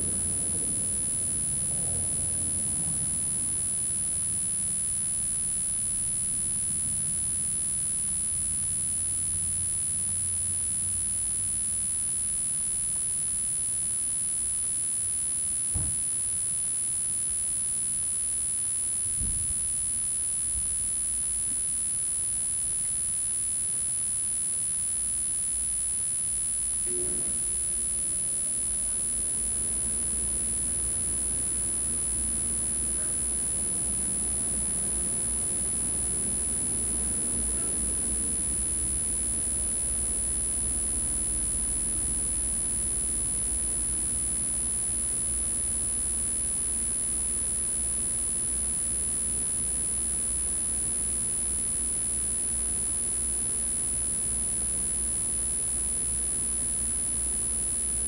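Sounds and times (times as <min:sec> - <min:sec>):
high-pitched electronic whine: 0:00.0 - 0:58.0.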